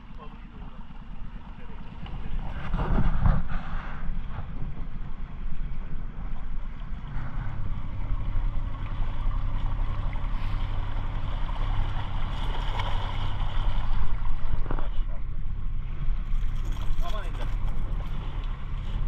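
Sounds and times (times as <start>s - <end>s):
boat motor running: 0.0s - 19.0s
water noise: 0.0s - 19.0s
wind: 0.0s - 19.0s.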